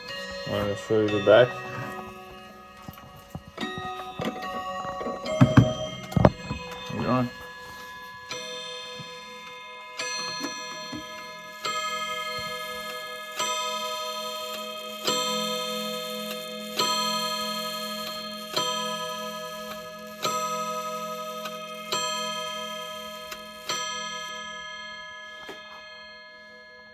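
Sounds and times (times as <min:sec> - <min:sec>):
mantel clock striking: 0:00.0 - 0:26.9.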